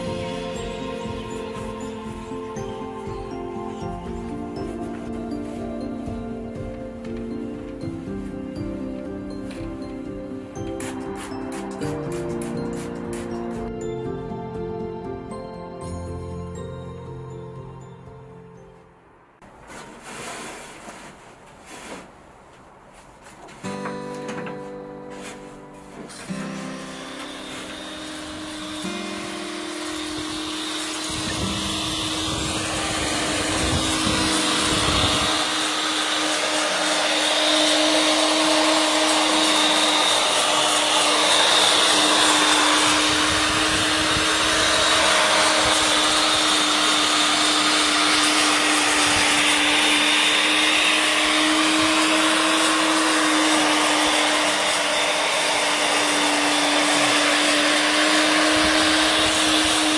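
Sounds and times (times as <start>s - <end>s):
electric herb grinder whirring: 0.0s - 14.9s, 25.2s - 59.9s.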